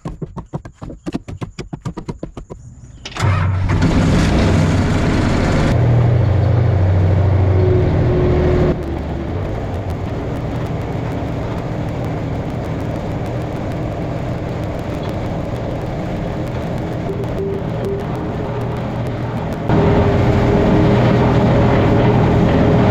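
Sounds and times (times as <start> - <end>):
engine running with low hum: 2.6 - 22.9.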